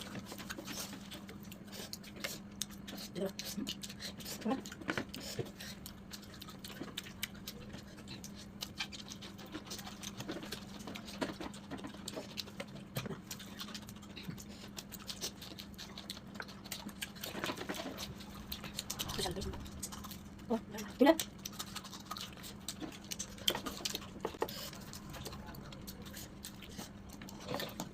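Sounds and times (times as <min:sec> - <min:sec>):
person chewing and smacking: 0:00.0 - 0:27.9
steady low hum: 0:00.0 - 0:27.9.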